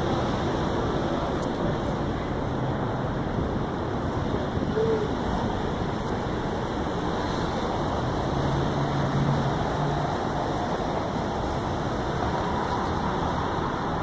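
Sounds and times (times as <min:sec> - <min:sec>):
low engine hum: 0:00.0 - 0:14.0
traffic on wet road: 0:00.0 - 0:14.0.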